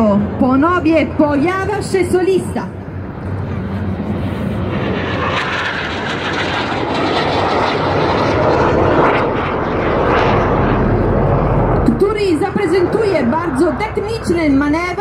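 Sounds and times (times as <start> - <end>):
jet aircraft flying low: 0.0 - 15.0.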